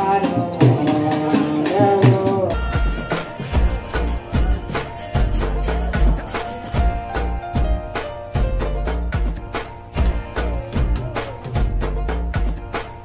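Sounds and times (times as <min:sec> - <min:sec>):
barrel drum beat: 0:00.0 - 0:13.0
jingling percussion: 0:01.2 - 0:13.0.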